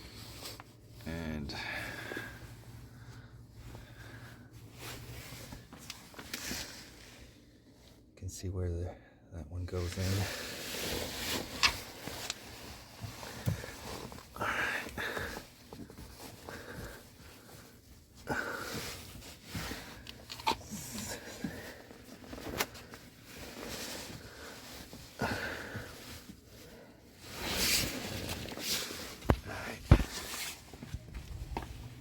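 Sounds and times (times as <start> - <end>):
rubbing and rustling: 2.4 - 8.1, 9.8 - 32.0.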